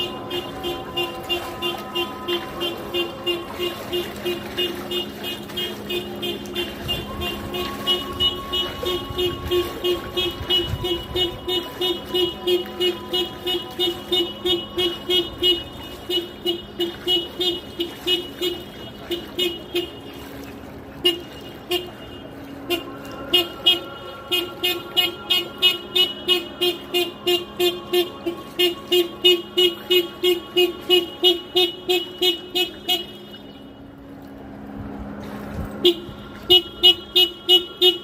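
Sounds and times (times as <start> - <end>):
car alarm horn toots: 0.0 - 20.2, 21.0 - 33.9, 35.8 - 38.0.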